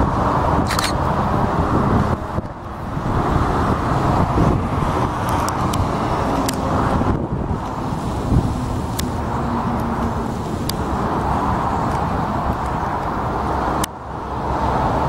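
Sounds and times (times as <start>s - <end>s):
cars on road: 0.0s - 15.0s
jet taxiing: 0.0s - 15.0s.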